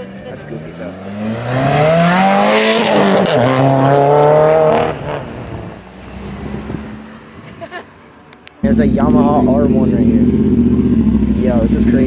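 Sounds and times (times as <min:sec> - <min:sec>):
vehicle engine revving: 0:00.0 - 0:07.2, 0:08.6 - 0:12.0.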